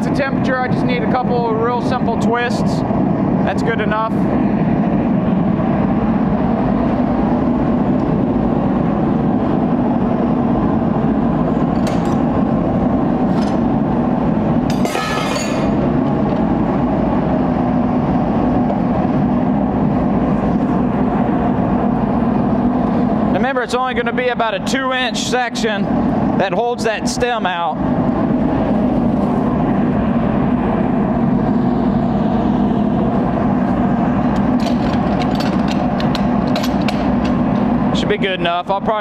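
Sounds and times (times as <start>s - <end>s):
forge burner rushing: 0.0s - 39.0s.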